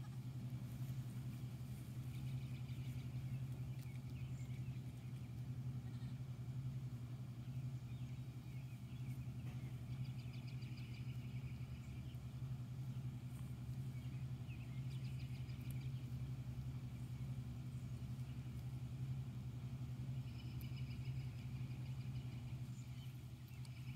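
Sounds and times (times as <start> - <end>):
low mechanical hum: 0.0 - 23.9.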